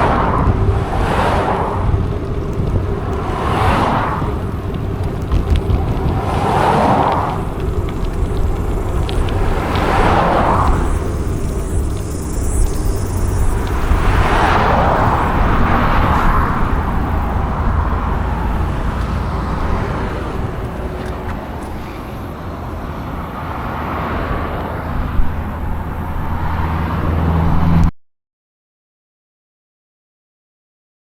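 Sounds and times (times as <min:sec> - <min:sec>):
passing traffic rushing: 0:00.0 - 0:27.9
wind and road noise from bike: 0:00.0 - 0:27.9.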